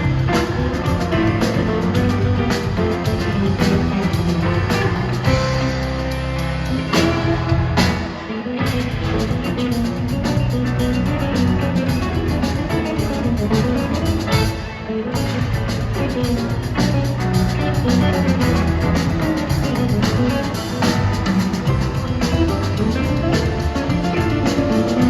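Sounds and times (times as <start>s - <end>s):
bass: 0.0s - 25.0s
drum kit: 0.0s - 25.0s
electric guitar: 0.0s - 25.0s.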